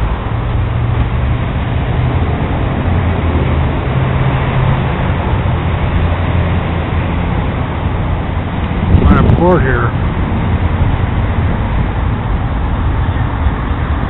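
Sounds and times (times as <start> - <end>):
low engine hum: 0.0 - 14.0
road traffic noise: 0.0 - 14.0.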